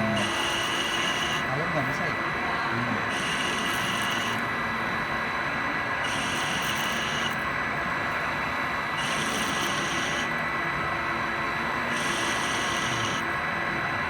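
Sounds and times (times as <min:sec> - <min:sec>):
high machine whine: 0:00.0 - 0:14.0
lathe humming: 0:00.0 - 0:14.0.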